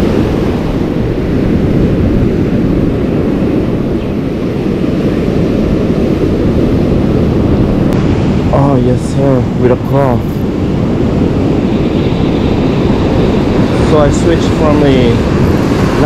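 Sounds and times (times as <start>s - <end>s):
ocean surf washing: 0.0s - 16.0s
wind on microphone: 0.0s - 16.0s.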